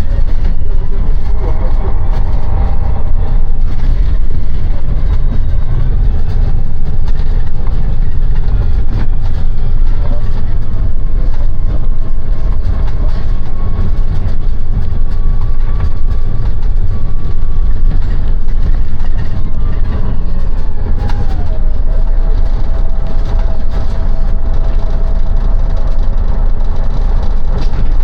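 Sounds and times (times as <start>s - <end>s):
bus engine and road rumble: 0.0s - 28.0s
faint whine: 0.0s - 28.0s.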